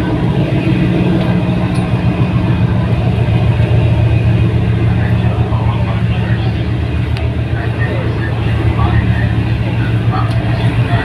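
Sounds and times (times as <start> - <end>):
ferry engines droning: 0.0 - 11.0.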